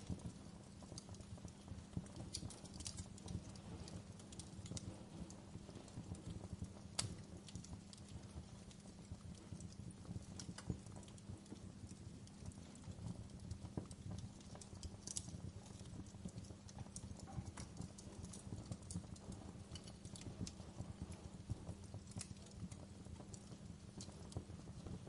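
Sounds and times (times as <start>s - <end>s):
burning logs crackling and popping: 0.0s - 25.0s
fire flames rumbling: 0.0s - 25.0s.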